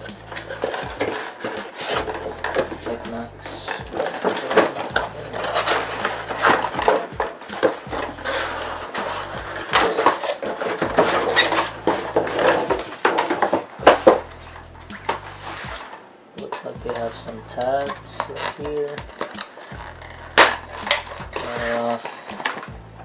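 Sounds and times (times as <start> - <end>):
cardboard scraping and tapping: 0.0 - 22.8.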